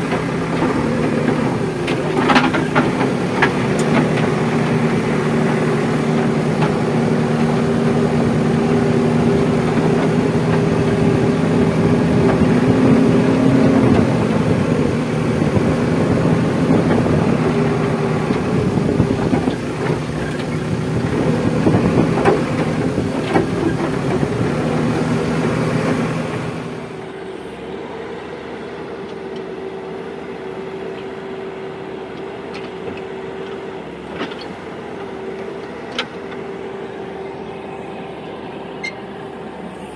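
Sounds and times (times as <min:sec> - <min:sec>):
diesel engine running hard: 0:00.0 - 0:39.9.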